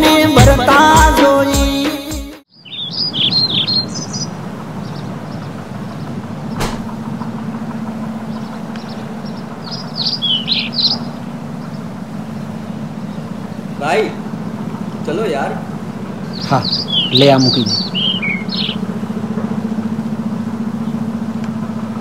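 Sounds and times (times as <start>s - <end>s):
birds chirping: 0.0s - 22.0s
steady low hum: 3.8s - 22.0s.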